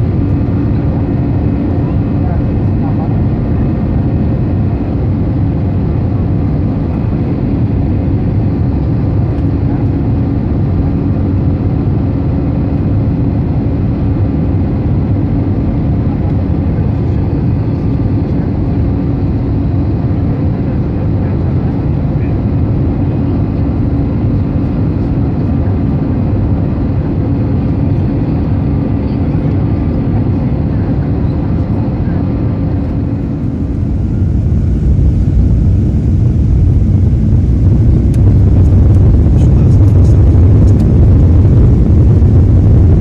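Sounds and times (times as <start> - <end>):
constant hum: 0.0 - 43.0
jet cabin rumble: 0.0 - 43.0.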